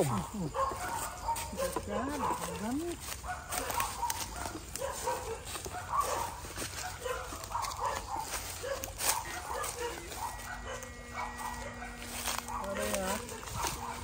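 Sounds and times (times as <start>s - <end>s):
yipping animal calls: 0.0s - 14.0s.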